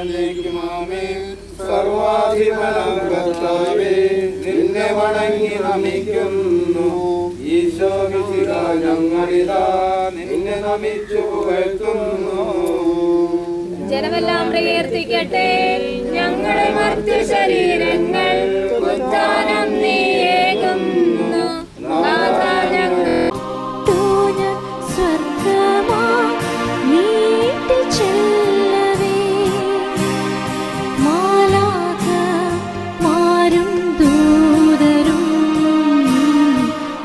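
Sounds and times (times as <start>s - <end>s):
group singing a hymn: 0.0s - 37.0s.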